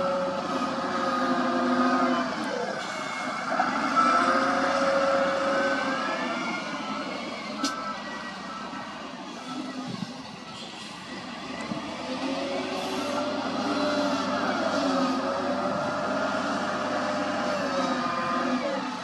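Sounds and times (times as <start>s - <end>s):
wheel loader diesel engine revving: 0.0s - 19.0s.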